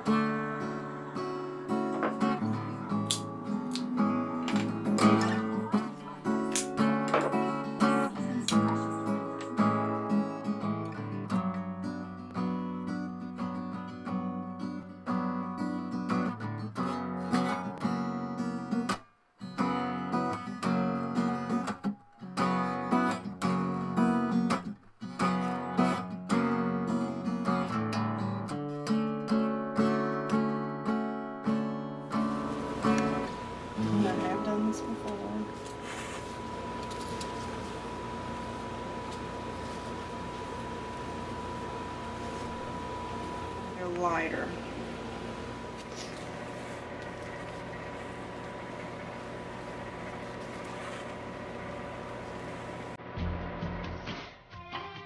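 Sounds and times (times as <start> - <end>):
strummed acoustic guitar music: 0.0 - 53.6.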